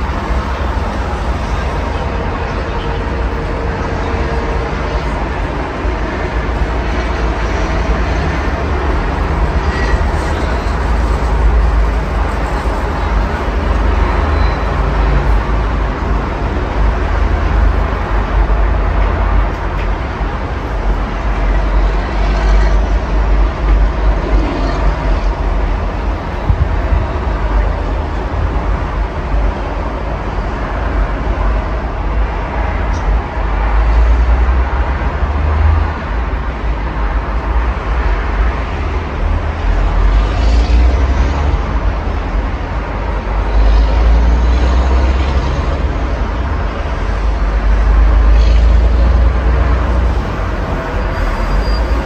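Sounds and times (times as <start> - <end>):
road traffic noise: 0.0 - 52.0.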